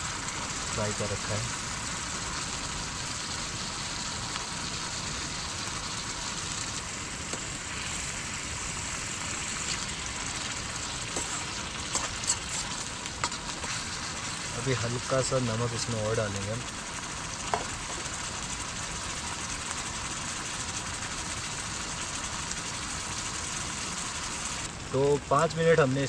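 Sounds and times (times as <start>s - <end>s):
gravy sizzling in a pan: 0.0s - 26.0s.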